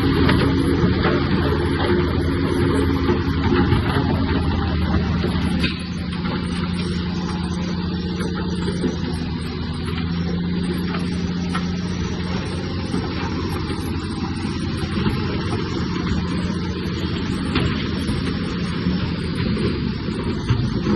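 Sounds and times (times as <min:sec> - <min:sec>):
heavy diesel machinery running: 0:00.0 - 0:20.9.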